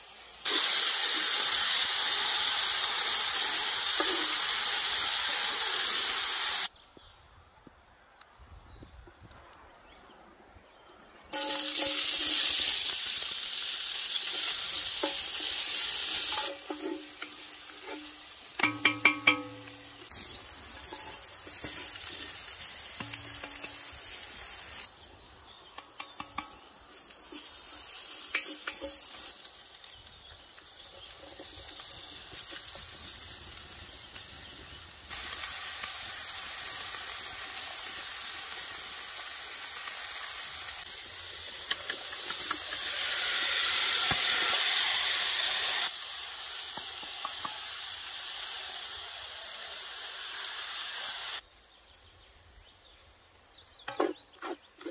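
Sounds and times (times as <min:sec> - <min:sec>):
vegetables sizzling in a pot: 0:00.0 - 0:06.7, 0:11.3 - 0:52.0.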